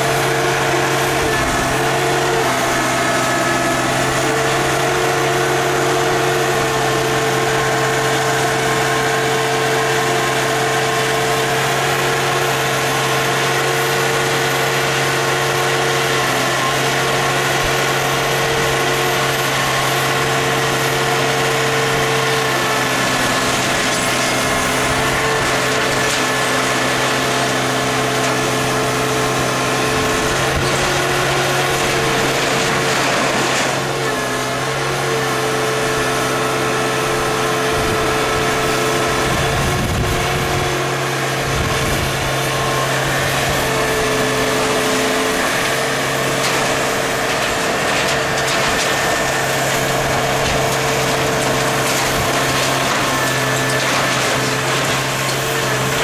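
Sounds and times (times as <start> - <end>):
hydraulic whining: 0.0 - 56.0
loader engine running: 0.0 - 56.0.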